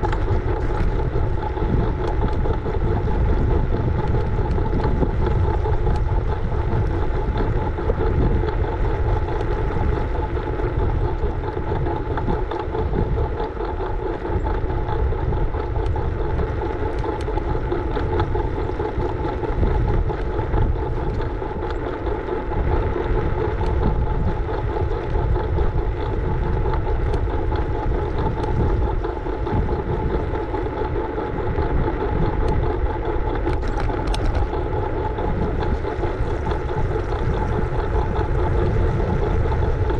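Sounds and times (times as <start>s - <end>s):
high-pitched hum: 0.0s - 39.9s
road rumble: 0.0s - 39.9s
wind rush: 0.0s - 39.9s.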